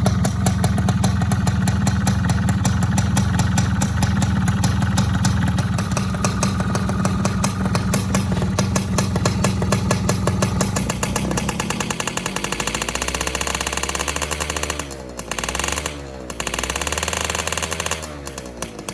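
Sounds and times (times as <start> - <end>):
two-stroke engine revving: 0.0 - 18.9.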